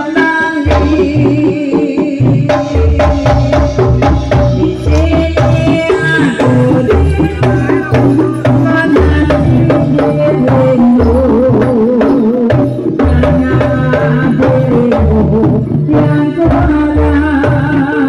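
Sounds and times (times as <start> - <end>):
sharp percussion strokes: 0.3 - 16.4
deep drum beat: 0.7 - 18.0.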